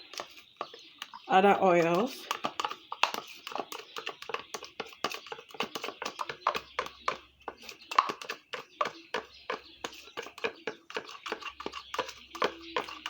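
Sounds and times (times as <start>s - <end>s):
spoon scraping mixing bowl: 0.0s - 13.0s.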